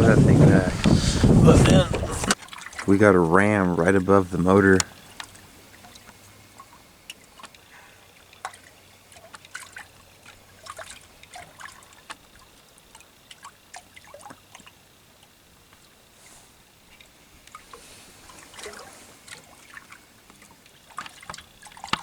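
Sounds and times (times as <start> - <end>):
water trickling against a boat: 0.0 - 22.0
small ticks and splashes: 2.3 - 22.0.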